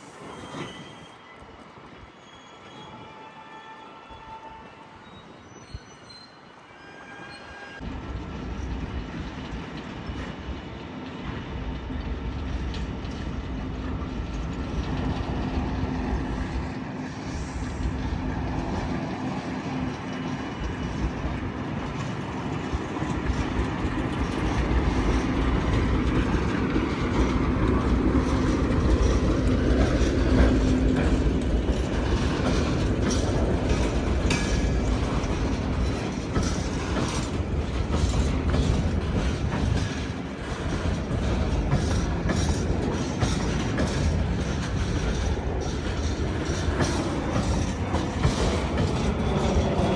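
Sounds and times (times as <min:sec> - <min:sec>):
train low hum: 0:00.0 - 0:49.9
train wheels clacking on rail joints: 0:07.8 - 0:49.9.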